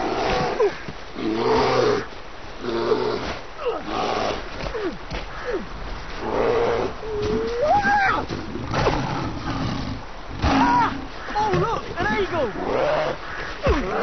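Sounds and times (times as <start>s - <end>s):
bear growling and roaring: 0.0s - 14.0s.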